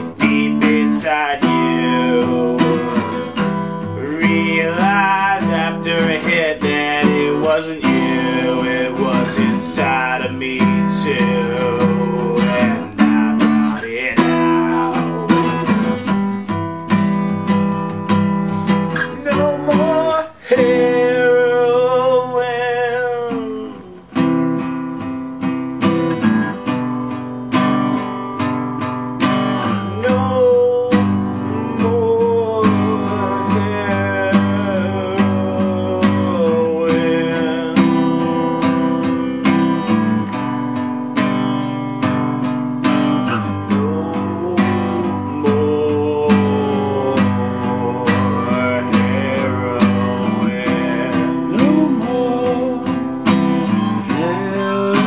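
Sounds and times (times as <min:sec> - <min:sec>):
man singing slow melody: 0:00.0 - 0:25.0, 0:29.2 - 0:55.0
acoustic guitar strumming: 0:00.0 - 0:55.0.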